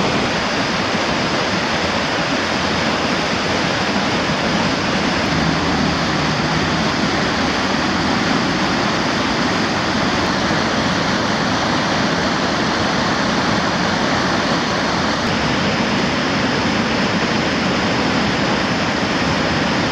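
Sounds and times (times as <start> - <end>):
water rushing over rapids: 0.0 - 19.9.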